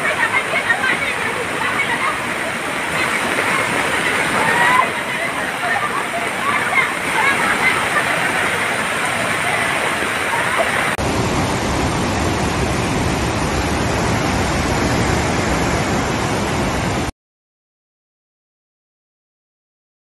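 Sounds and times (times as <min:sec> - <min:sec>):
floodwater rushing: 0:00.0 - 0:17.1
river in spate rushing: 0:00.0 - 0:17.1.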